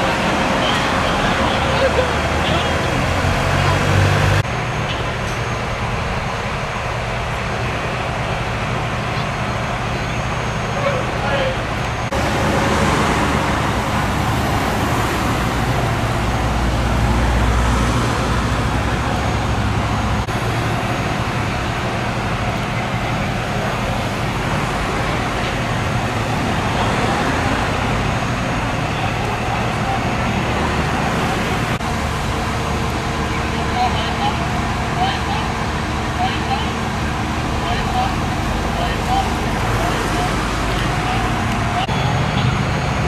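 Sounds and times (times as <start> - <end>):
large vehicle engine rumbling: 0.0 - 43.0
street traffic noise: 0.0 - 43.0.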